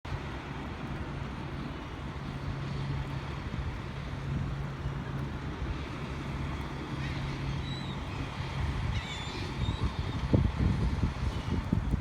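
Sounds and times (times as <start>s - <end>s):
low engine hum: 0.1s - 12.0s
wind noise on microphone: 0.1s - 12.0s.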